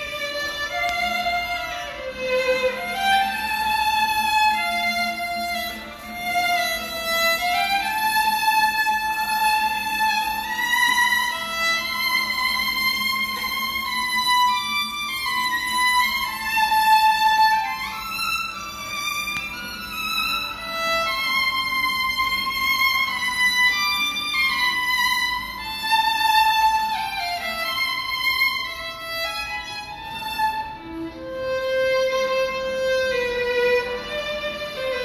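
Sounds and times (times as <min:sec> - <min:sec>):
solo violin slow melody: 0:00.0 - 0:35.0.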